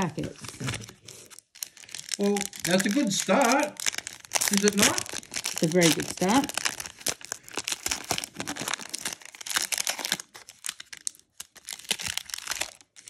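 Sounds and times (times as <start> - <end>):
foil wrapper tearing and crinkling: 0.2 - 13.0.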